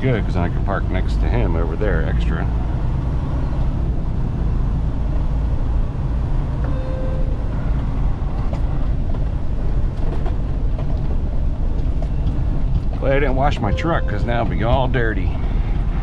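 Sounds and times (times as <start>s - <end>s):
diesel truck engine and road rumble: 0.0s - 16.0s.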